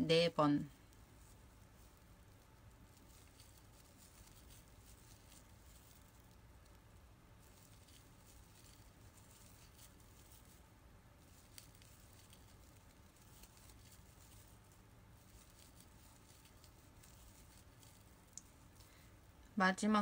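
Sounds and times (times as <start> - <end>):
crochet hook ticks and rustles: 0.8 - 10.6, 11.2 - 18.9.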